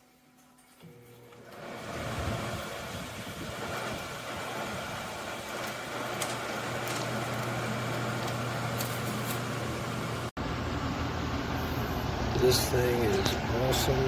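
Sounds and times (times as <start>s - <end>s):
compressor hum: 0.1s - 14.0s
air conditioner fan rushing: 0.7s - 14.0s.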